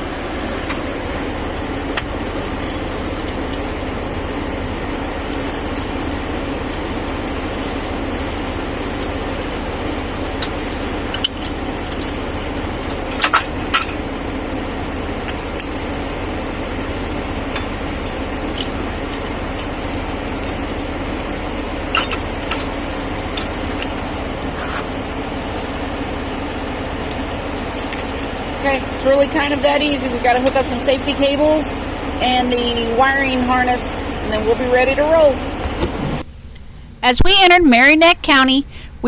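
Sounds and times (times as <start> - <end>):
vehicle engine idling: 0.0 - 39.0.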